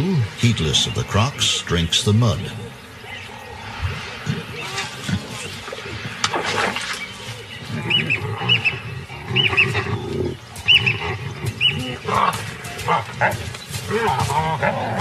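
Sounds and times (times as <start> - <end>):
baboons grunting and growling: 0.0 - 15.0.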